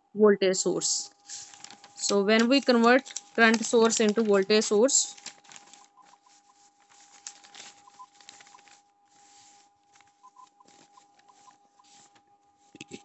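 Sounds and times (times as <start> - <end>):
faint high-pitched hum: 0.0 - 13.0
paper rustling: 1.2 - 13.0.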